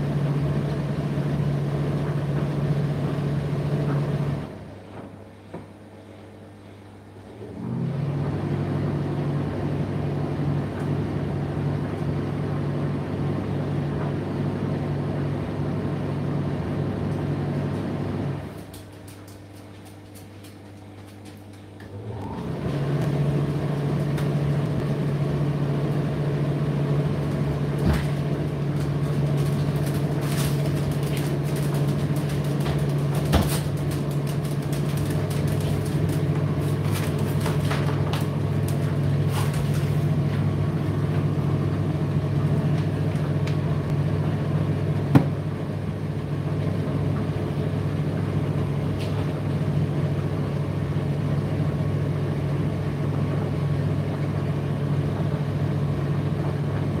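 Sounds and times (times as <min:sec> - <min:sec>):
tumble dryer humming: 0:00.0 - 0:57.0.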